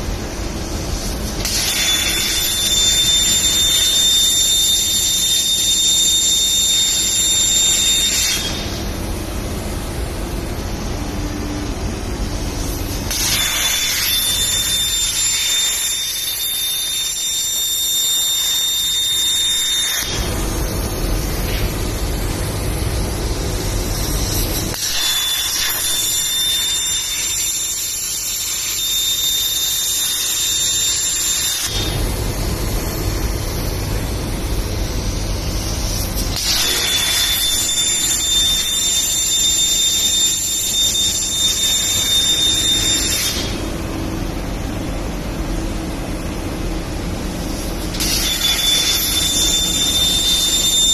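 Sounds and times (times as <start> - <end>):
plasma torch cutting metal: 0.0 - 50.9.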